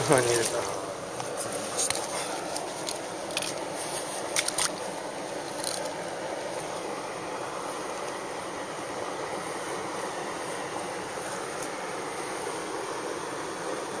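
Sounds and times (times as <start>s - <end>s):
mountain stream flowing: 0.0s - 14.0s.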